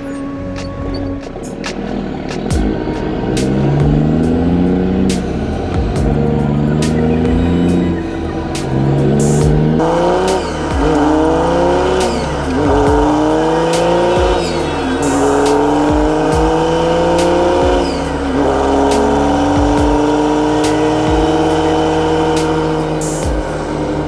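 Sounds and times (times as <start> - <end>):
background music: 0.0 - 24.0
diesel truck engine accelerating: 0.0 - 24.0.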